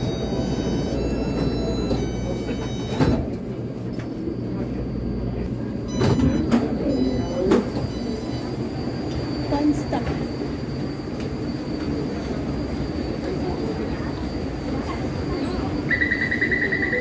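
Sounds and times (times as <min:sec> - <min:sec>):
train car rumbling while braking: 0:00.0 - 0:17.0.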